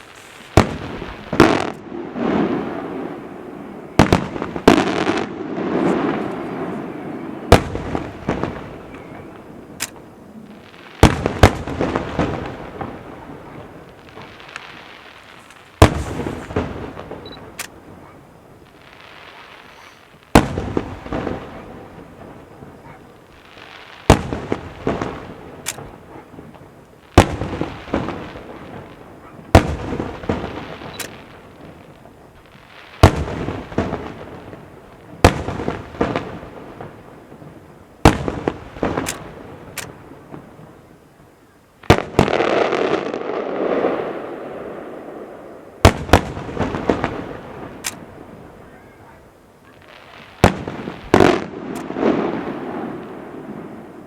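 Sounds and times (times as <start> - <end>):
firework bangs: 0.0 - 54.0
firework crackling: 0.0 - 54.0.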